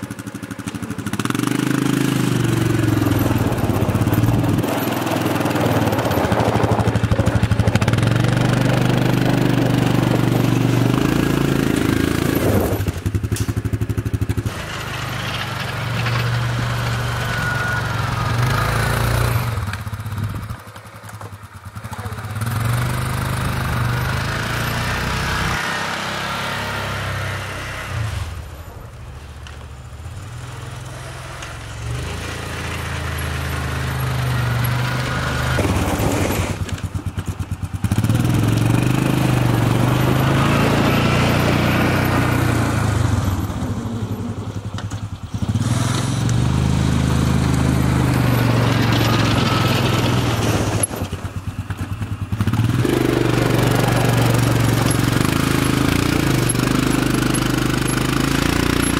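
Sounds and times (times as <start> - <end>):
vehicle engine revving: 0.0 - 21.1, 21.7 - 58.9.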